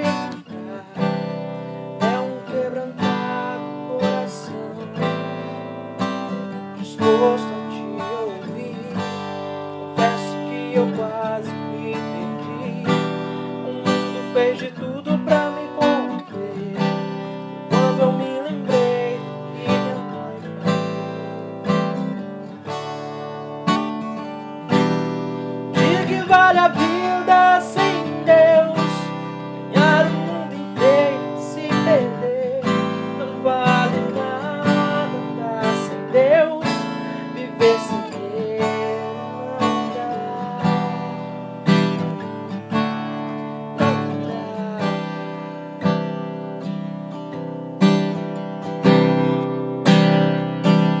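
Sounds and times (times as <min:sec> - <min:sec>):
person singing: 0:00.0 - 0:21.5, 0:23.8 - 0:42.6, 0:43.6 - 0:45.8
strummed acoustic guitar: 0:00.0 - 0:51.0.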